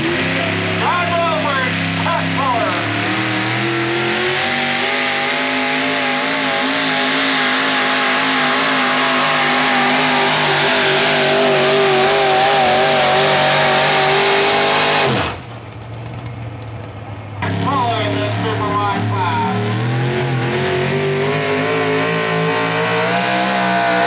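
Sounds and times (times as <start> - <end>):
truck engine revving under load: 0.0 - 24.0.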